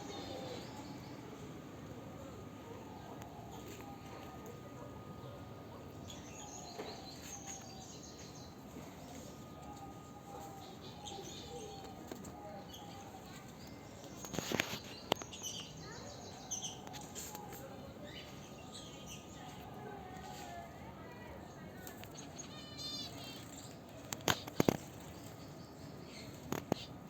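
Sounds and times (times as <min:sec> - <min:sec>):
birds chirping and twittering: 0:00.0 - 0:27.0.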